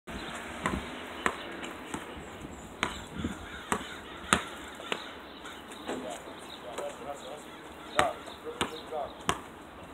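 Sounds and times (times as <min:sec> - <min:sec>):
basketball bouncing on asphalt: 0:00.2 - 0:06.0, 0:06.7 - 0:07.1, 0:07.8 - 0:09.6.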